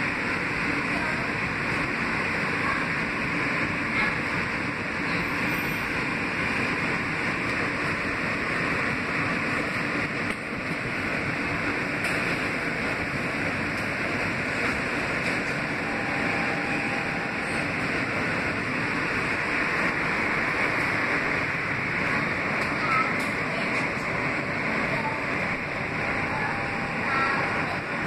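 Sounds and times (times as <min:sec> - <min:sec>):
subway car wheels rumbling on rails: 0:00.0 - 0:28.0.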